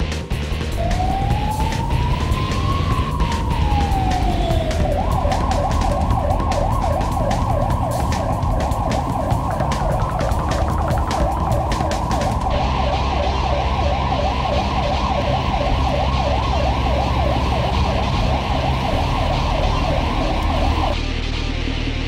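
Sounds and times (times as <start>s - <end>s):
vehicle engine and road rumble: 0.0s - 22.0s
ambulance siren yelping: 0.6s - 21.0s.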